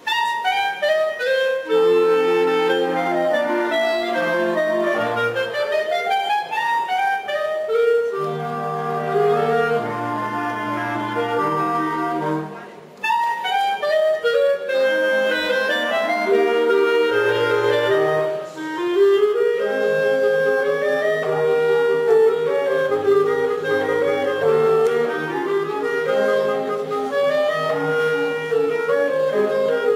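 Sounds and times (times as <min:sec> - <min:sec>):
chamber quintet playing: 0:00.0 - 0:29.9.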